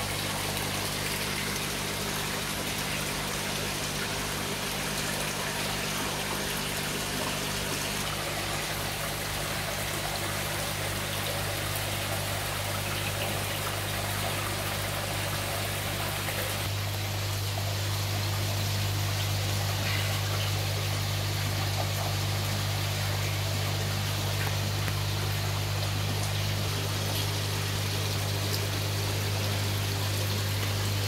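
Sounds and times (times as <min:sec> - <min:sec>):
low pump hum: 0:00.0 - 0:31.0
water trickling: 0:00.0 - 0:31.0.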